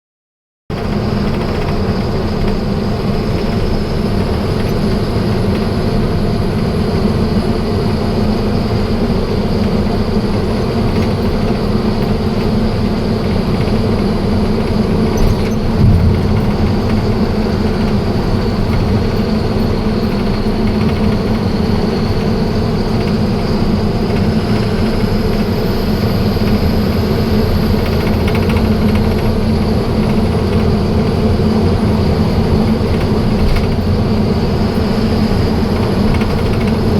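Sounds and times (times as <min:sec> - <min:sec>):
road and tyre rumble: 0:00.7 - 0:36.9
truck engine drone: 0:00.7 - 0:36.9.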